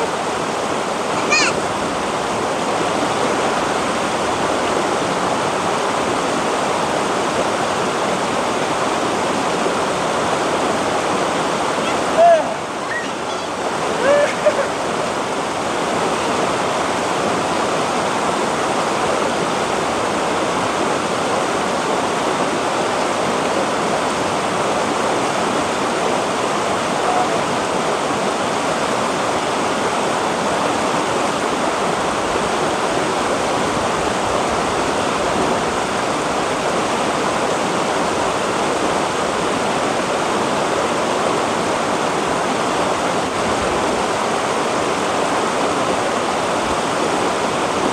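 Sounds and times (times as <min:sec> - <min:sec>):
river rushing over boulders: 0:00.0 - 0:47.9.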